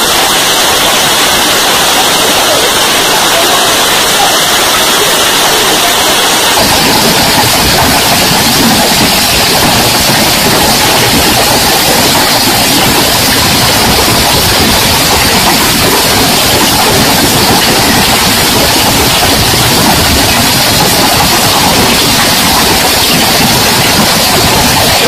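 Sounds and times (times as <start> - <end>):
heavy hail pelting down: 0.0 - 25.0.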